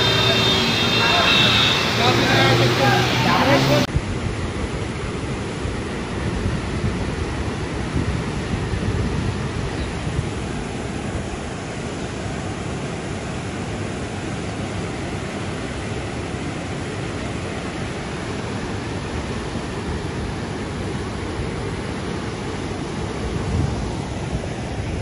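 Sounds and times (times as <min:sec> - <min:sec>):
rushing floodwater: 0:00.0 - 0:25.0.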